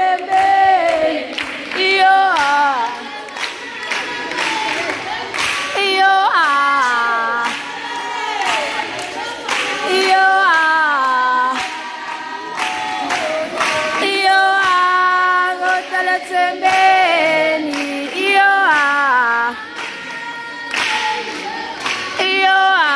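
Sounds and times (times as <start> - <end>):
young women singing a cappella: 0.0 - 22.9.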